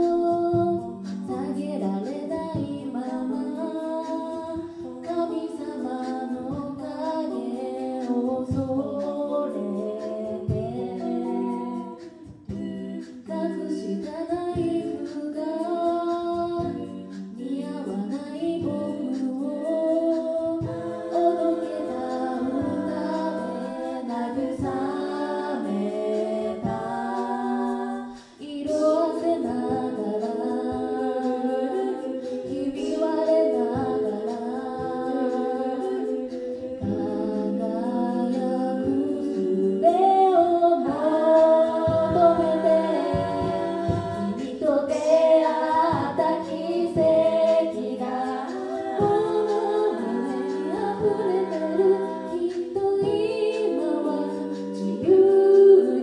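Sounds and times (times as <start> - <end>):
a cappella group singing: 0.0 - 56.0.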